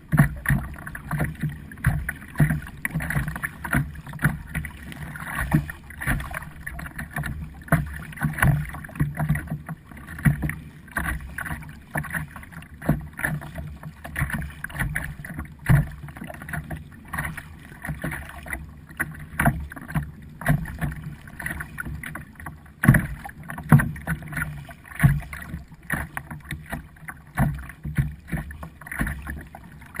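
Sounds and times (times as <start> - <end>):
kayak paddle splashing: 0.0 - 30.0
water rumble: 0.0 - 30.0.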